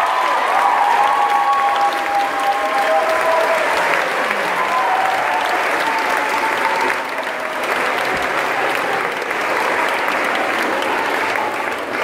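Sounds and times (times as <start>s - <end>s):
group of girls clapping: 0.0s - 12.0s.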